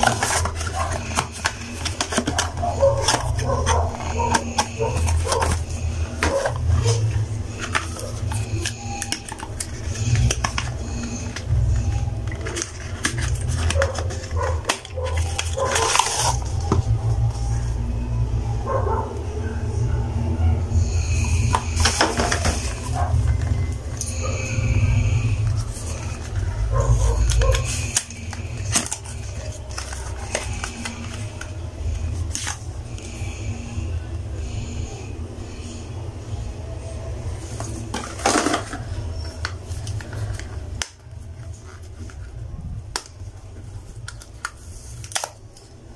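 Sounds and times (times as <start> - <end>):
packaging rustling and crinkling: 0.0 - 17.6, 21.0 - 33.1, 37.4 - 45.8
steady low hum: 0.0 - 45.9.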